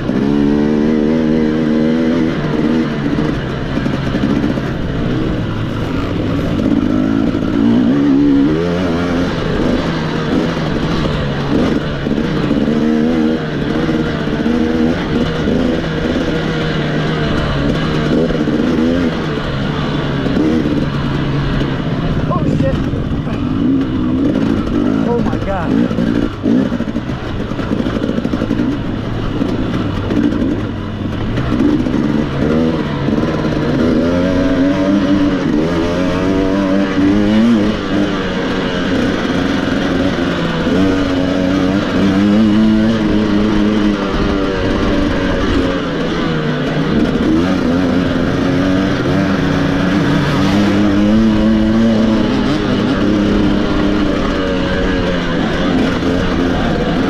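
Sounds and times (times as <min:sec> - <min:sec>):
racing motorcycle engine revving: 0:00.0 - 0:57.0
riding noise: 0:00.0 - 0:57.0.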